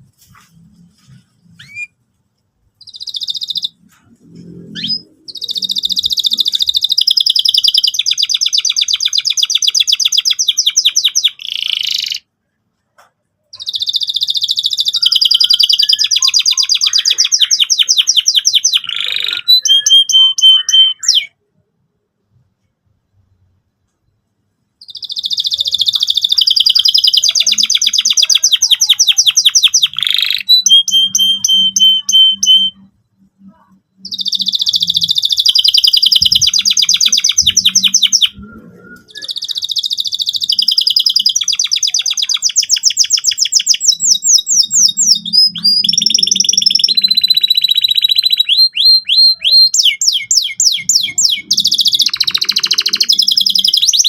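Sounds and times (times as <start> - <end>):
canary singing trills: 0.2 - 2.0, 2.8 - 12.3, 13.0 - 21.4, 24.8 - 54.0.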